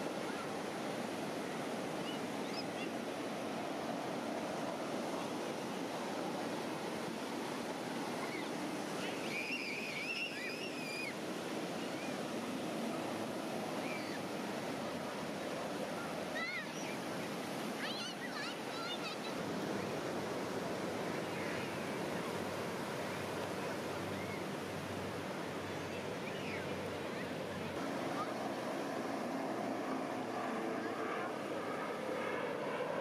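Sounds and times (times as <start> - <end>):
ocean surf on beach: 0.0 - 33.0.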